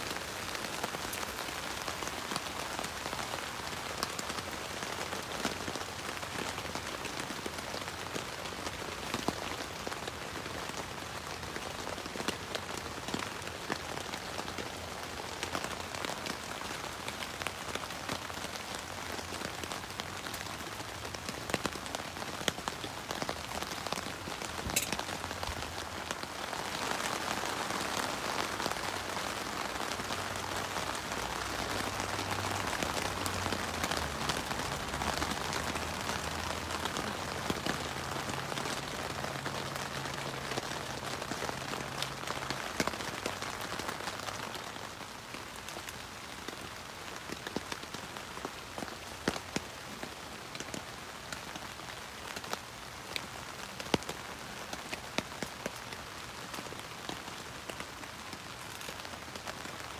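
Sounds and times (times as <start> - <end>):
rain on a tent roof: 0.0 - 59.9.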